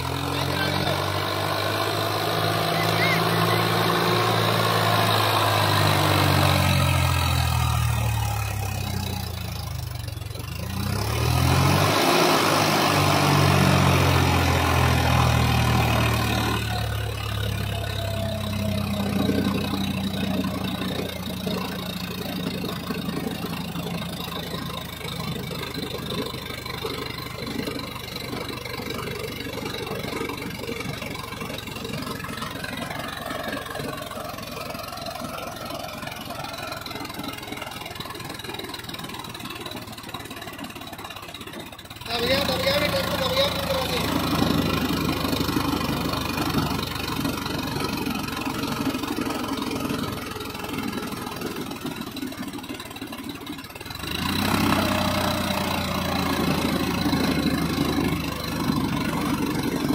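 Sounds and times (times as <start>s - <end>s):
tractor diesel engine labouring: 0.0s - 59.9s.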